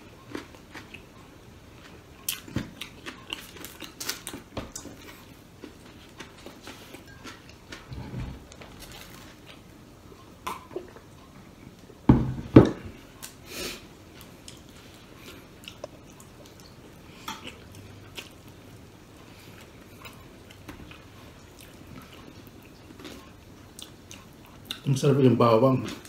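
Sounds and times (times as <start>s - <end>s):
person chewing food: 0.0s - 12.0s, 12.9s - 24.9s.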